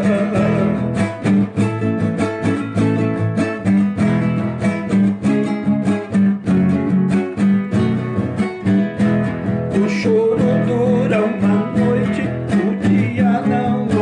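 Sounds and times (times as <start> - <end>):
acoustic guitar strumming: 0.0 - 14.0
bass line: 0.0 - 14.0.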